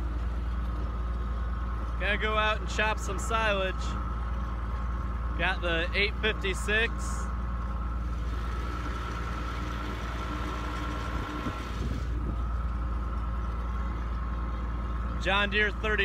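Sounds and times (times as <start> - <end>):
steady whine: 0.0 - 16.0
tractor engine running: 0.0 - 16.0.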